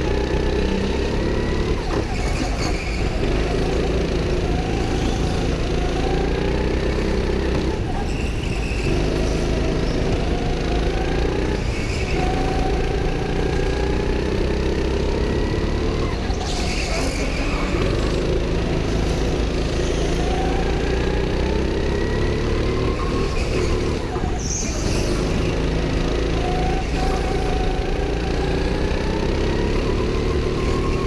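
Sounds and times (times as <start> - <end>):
go-kart engine revving: 0.0 - 31.0.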